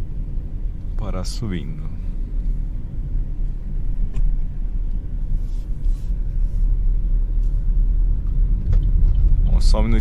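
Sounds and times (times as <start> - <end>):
car engine: 0.0 - 10.0
road noise: 0.0 - 10.0.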